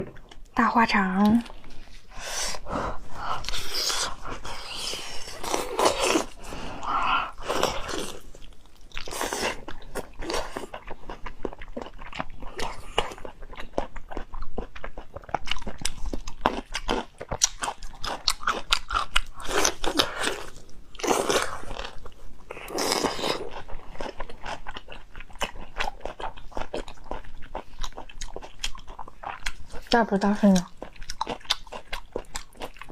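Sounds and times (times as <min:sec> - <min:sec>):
person biting and chewing food: 0:01.4 - 0:29.8, 0:30.6 - 0:32.9.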